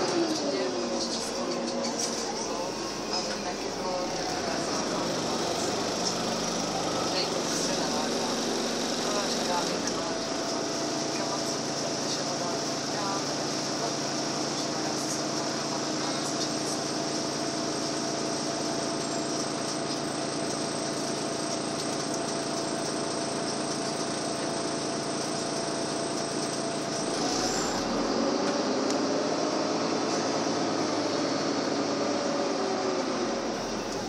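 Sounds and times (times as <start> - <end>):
bus engine drone: 0.0 - 34.0
road noise: 0.0 - 34.0.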